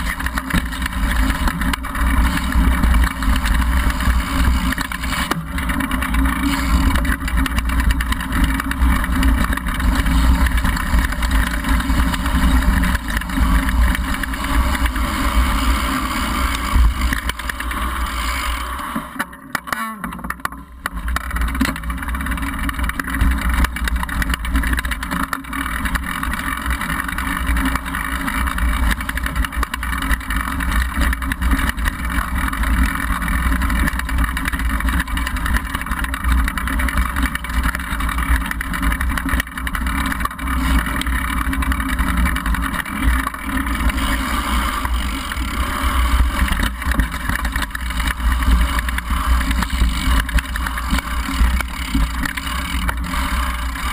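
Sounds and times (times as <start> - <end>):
bike rattling over stones: 0.0 - 53.9.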